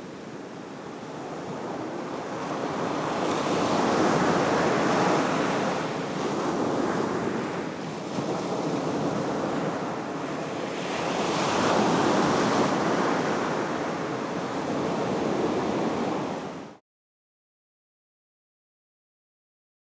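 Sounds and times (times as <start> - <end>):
ocean surf breaking on sand: 0.3 - 16.8.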